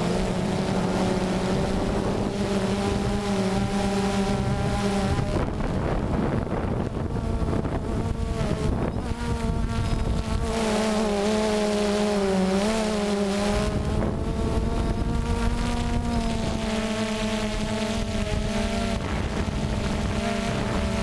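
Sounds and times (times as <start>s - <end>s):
drone propellers buzzing: 0.0s - 21.0s
wind noise on microphone: 0.0s - 21.0s.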